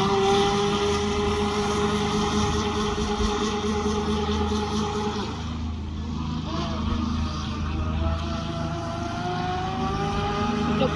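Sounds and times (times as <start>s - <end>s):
model speedboat motor whine: 0.0s - 10.9s
steady low hum: 0.0s - 10.9s.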